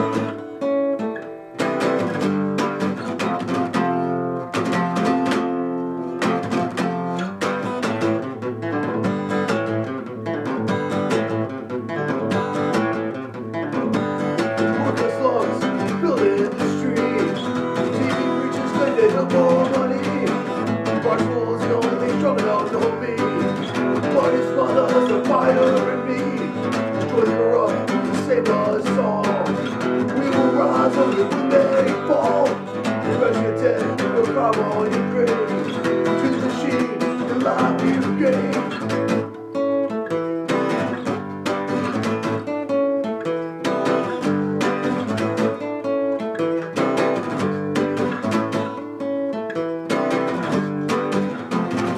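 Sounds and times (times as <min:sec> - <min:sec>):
acoustic guitar strumming and picking: 0:00.0 - 0:51.9.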